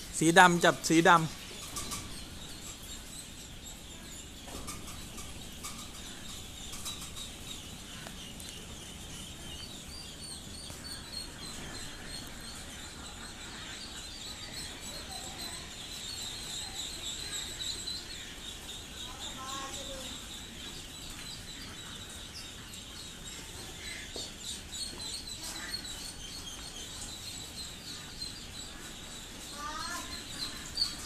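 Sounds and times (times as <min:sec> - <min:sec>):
ducklings peeping: 0:00.0 - 0:31.0.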